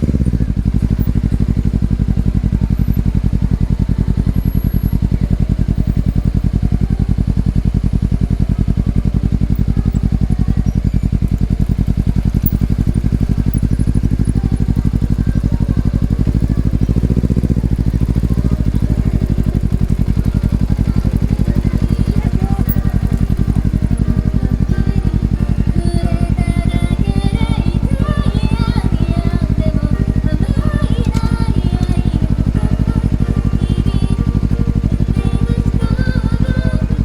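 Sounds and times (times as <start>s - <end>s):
motorcycle exhaust pulsing: 0.0s - 37.0s.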